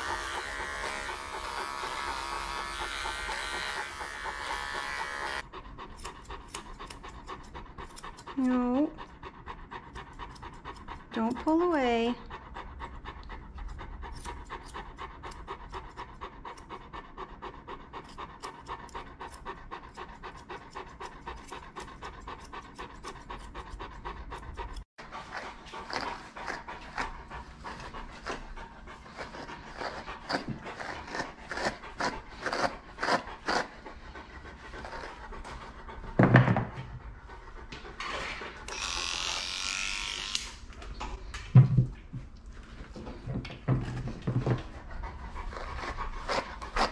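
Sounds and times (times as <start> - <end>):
dog panting: 0.0 - 39.4, 41.1 - 46.9.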